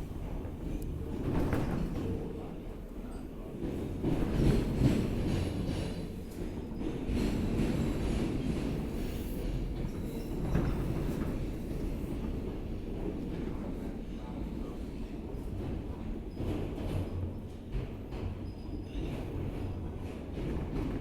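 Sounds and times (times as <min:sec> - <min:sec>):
subway wheels rumbling on rail: 0:00.0 - 0:21.0.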